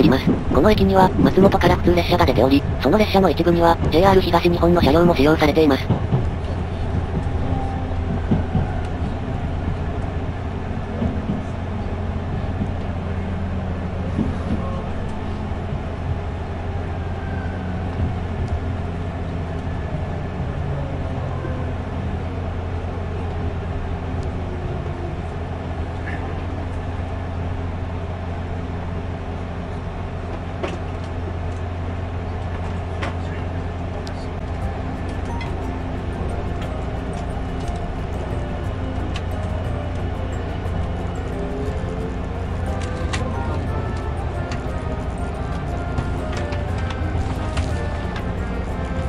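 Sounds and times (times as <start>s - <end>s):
train running hum: 0.0s - 49.0s.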